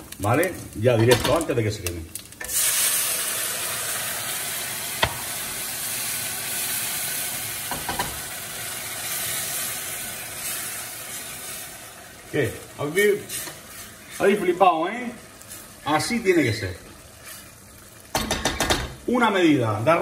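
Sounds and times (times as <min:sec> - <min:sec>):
rice sizzling in hot oil: 0:00.0 - 0:20.0.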